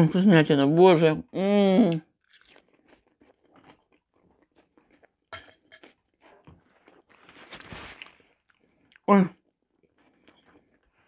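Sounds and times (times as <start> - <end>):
person chewing: 1.9 - 11.0.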